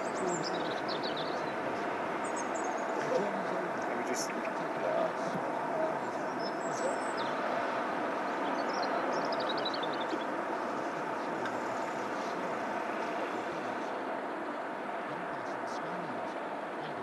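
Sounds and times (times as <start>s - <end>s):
machinery droning: 0.0s - 17.0s.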